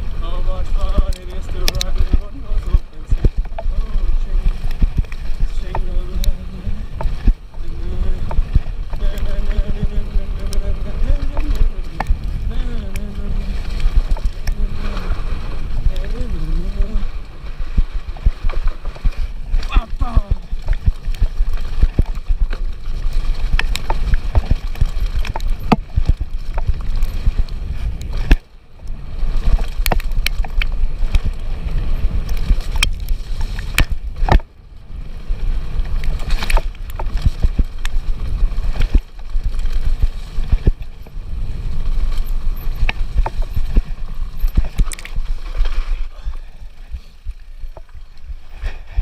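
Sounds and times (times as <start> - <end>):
bike rattling and clacking: 0.0 - 49.0
wind and tyres rumbling: 0.0 - 49.0.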